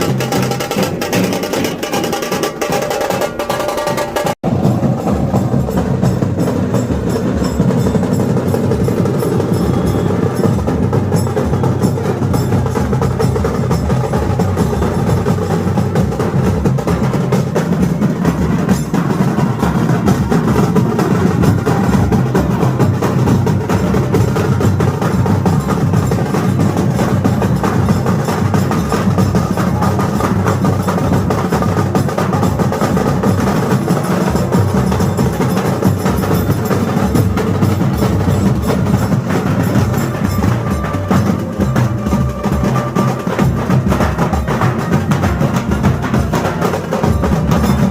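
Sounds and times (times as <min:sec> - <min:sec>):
loud music with fast drumming: 0:00.0 - 0:47.9.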